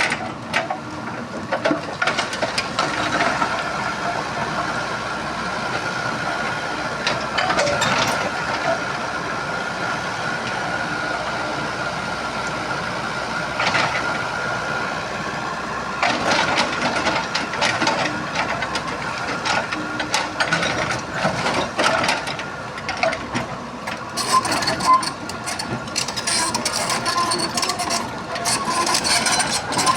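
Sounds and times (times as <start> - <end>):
excavator engine whining: 0.2 - 29.9.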